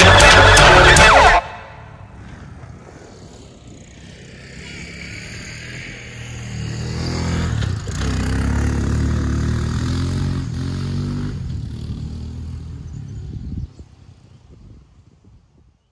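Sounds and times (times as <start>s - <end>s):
vehicle engine revving: 0.0s - 13.3s.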